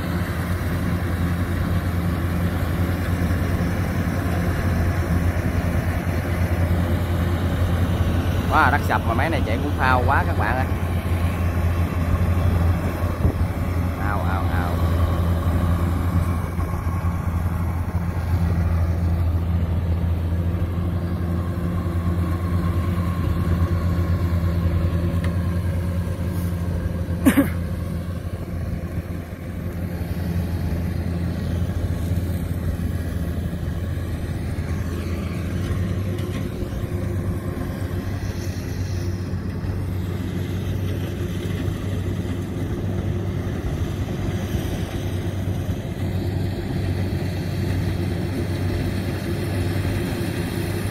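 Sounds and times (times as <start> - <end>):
diesel engine humming: 0.0 - 50.9.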